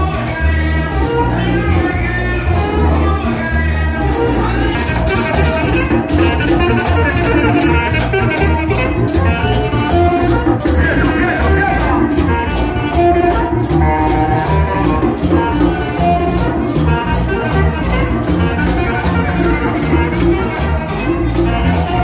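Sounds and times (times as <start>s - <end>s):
upbeat latin dance music: 0.0s - 22.0s.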